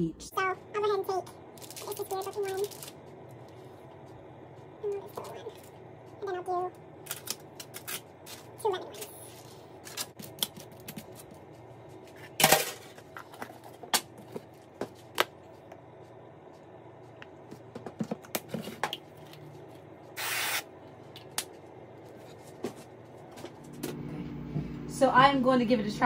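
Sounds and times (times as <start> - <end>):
microwave oven humming: 0.0 - 26.0.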